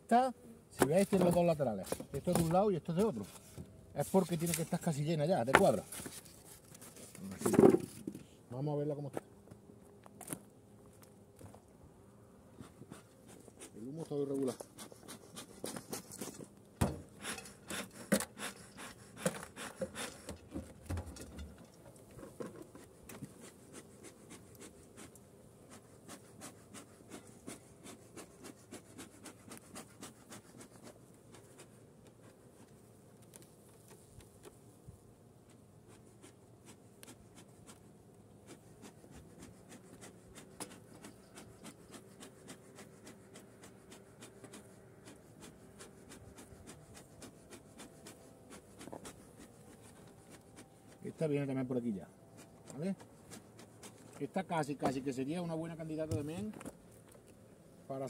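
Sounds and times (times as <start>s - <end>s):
wooden hive lid scraping: 0.1s - 8.3s, 12.5s - 34.8s, 35.4s - 58.0s.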